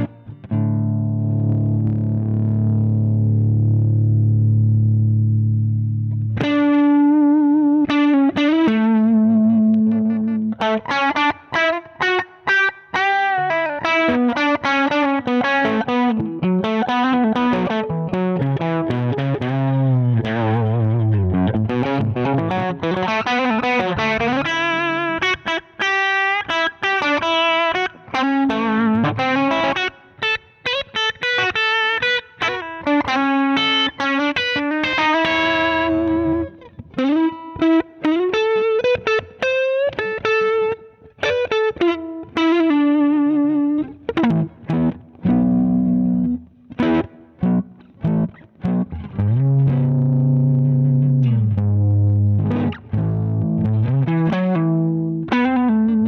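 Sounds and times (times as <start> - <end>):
overdriven electric guitar: 0.0 - 56.0.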